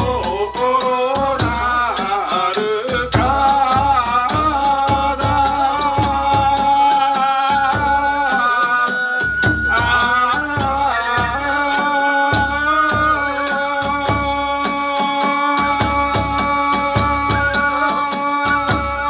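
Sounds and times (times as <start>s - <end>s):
taiko drums beat: 0.0s - 8.3s, 9.4s - 15.0s, 15.7s - 17.7s
shrill bamboo flute melody: 0.0s - 19.0s
small hand cymbals: 0.0s - 19.0s.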